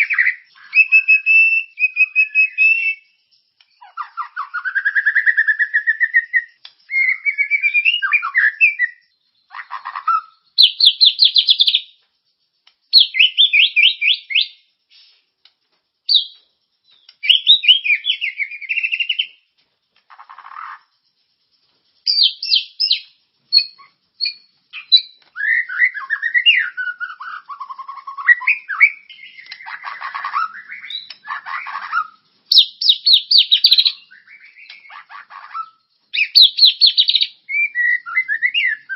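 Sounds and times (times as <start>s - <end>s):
songbird trills and whistles: 0.0s - 12.0s, 12.6s - 15.4s, 16.0s - 38.9s.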